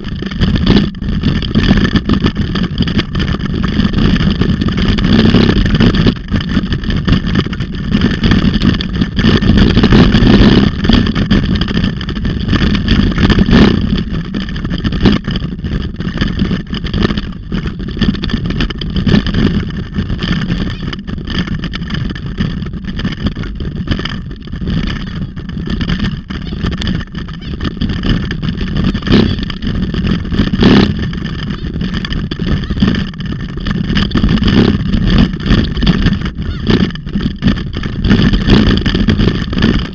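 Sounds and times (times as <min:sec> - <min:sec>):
bike knocking over bumps: 0:00.0 - 0:39.9
tyres rumbling on gravel: 0:00.0 - 0:39.9
wind buffeting microphone: 0:00.0 - 0:39.9.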